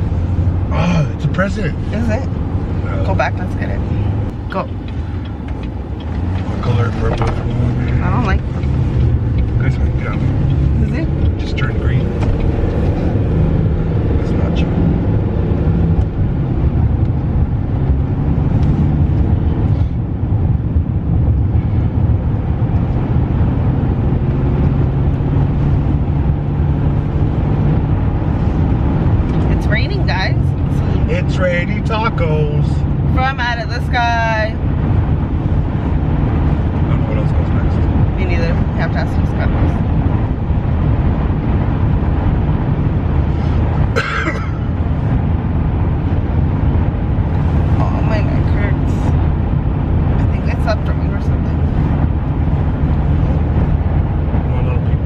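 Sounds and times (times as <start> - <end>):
car engine hum: 0.0 - 55.0
road noise inside moving car: 0.0 - 55.0.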